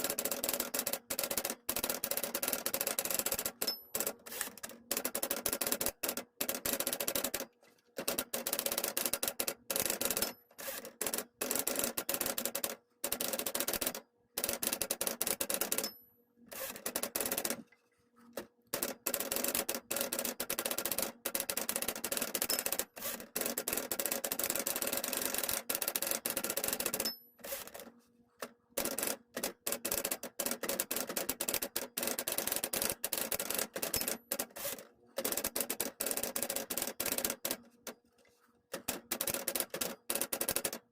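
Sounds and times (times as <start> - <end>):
manual typewriter typing: 0.0 - 17.6, 18.7 - 27.8, 28.8 - 38.0, 38.7 - 40.9.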